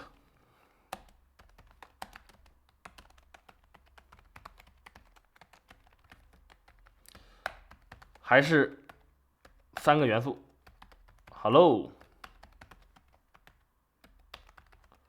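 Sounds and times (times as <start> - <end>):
computer keyboard typing: 0.9 - 15.0.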